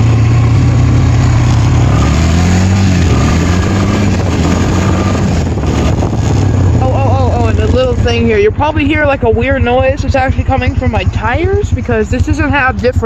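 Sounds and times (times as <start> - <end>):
quad bike engine running: 0.0 - 13.0
wind noise on microphone: 0.0 - 13.0.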